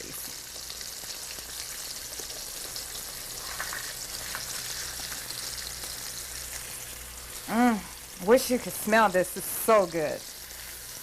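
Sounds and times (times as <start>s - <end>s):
fish deep-frying in hot oil: 0.0s - 11.0s.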